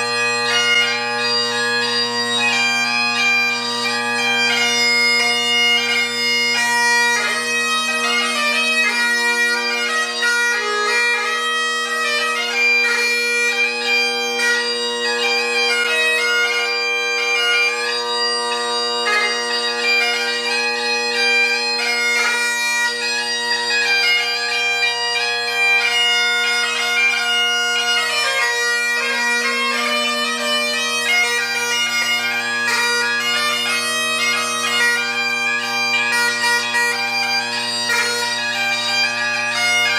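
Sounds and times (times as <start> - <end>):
bagpipe chanter melody: 0.0 - 39.9
bagpipe drones humming: 0.0 - 39.9.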